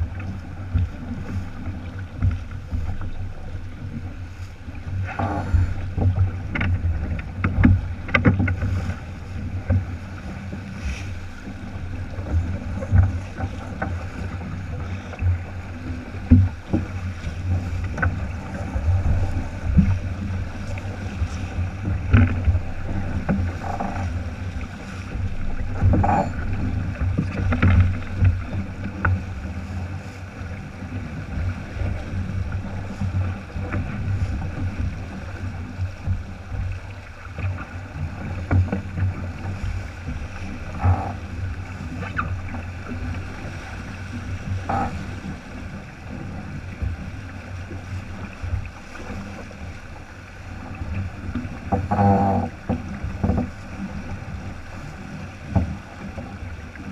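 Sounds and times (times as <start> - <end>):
water rushing along hull: 0.0 - 56.9.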